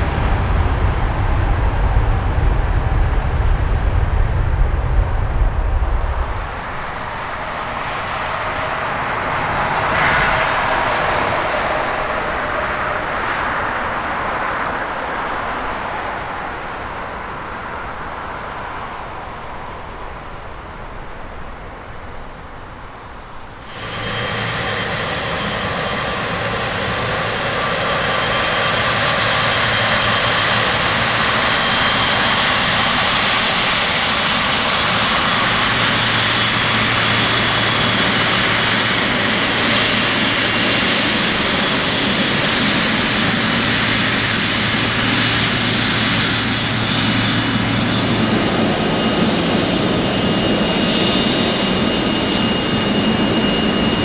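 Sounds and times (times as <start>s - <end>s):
jet engines at takeoff thrust: 0.0s - 54.0s
jet engines taxiing with whine: 0.0s - 54.0s.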